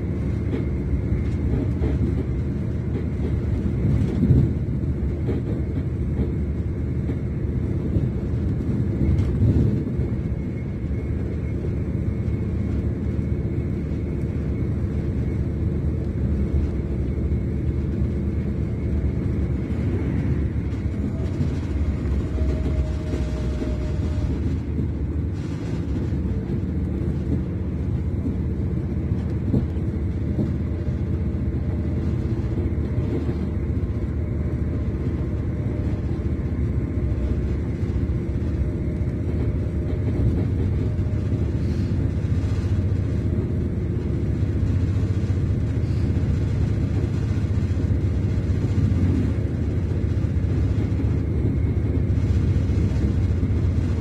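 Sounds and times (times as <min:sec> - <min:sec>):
train rumble heard inside: 0:00.0 - 0:54.0.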